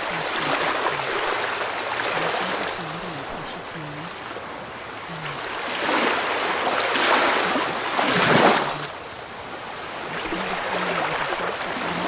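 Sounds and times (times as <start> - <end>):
ocean waves washing on shore: 0.0 - 12.0.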